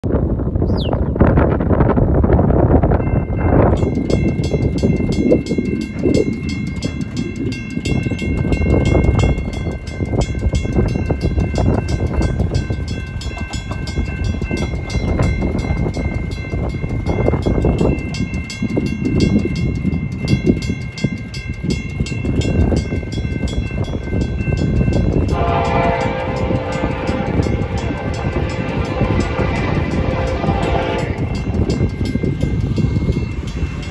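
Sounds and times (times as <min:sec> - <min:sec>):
mechanical crossing bell ringing: 0:02.9 - 0:33.9
electronic crossing bell ringing: 0:03.0 - 0:33.9.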